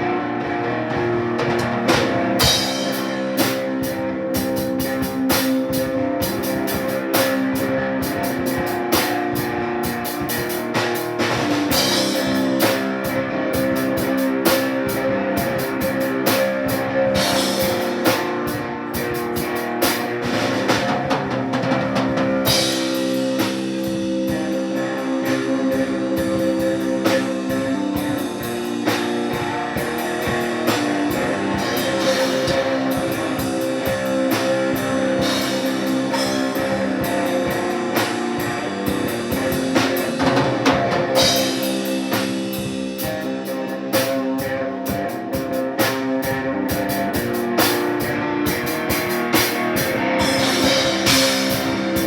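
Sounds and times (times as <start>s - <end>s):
drum kit beat: 0.0s - 52.0s
sustained guitar chords: 0.0s - 52.0s.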